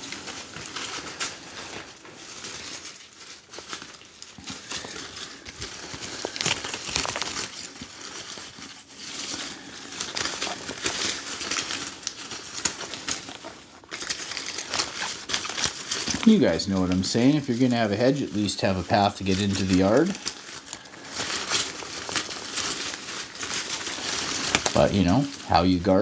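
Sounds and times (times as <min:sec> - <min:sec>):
artificial leaves rustling: 0:00.0 - 0:26.0.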